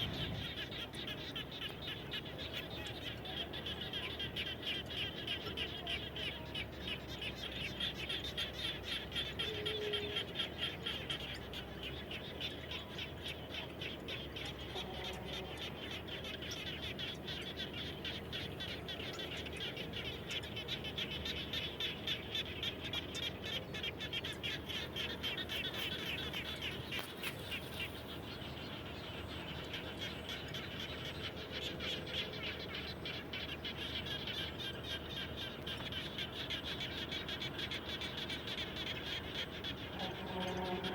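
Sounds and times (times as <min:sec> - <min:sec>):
faint lower frog calls: 0:00.0 - 0:40.9
frogs calling: 0:00.0 - 0:40.9.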